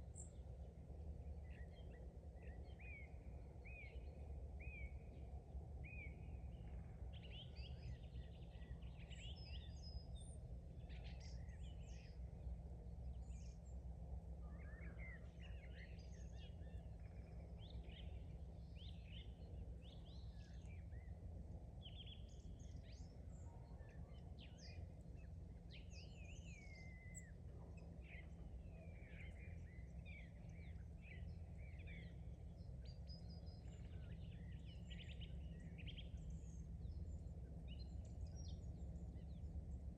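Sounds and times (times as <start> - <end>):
low background rumble: 0.0 - 39.9
songbirds chirping and trilling: 0.0 - 39.9.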